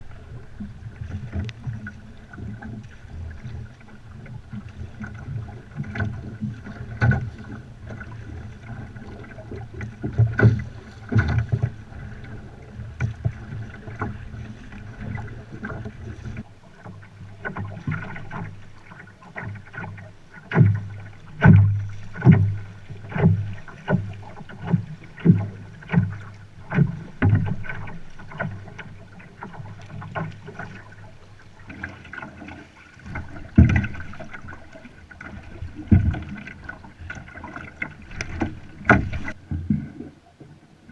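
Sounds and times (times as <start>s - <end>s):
paddle splashing through water: 0.0s - 40.9s.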